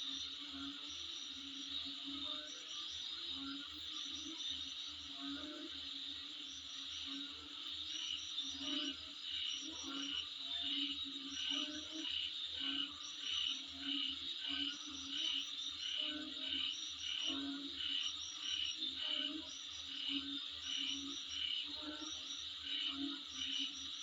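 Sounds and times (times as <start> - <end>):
insects droning and chirping: 0.0 - 24.0.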